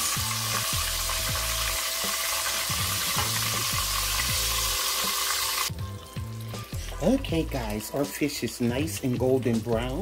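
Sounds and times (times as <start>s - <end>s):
fish deep-frying in oil: 0.0s - 10.0s.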